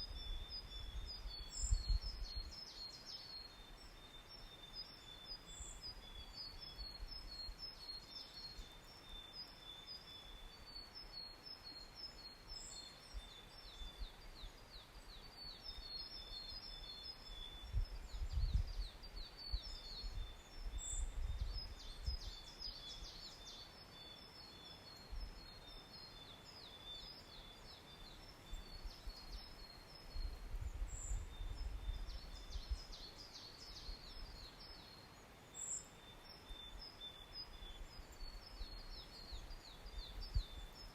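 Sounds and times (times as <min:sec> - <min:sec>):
background hiss: 0:00.0 - 0:40.9
songbirds singing: 0:00.0 - 0:40.9.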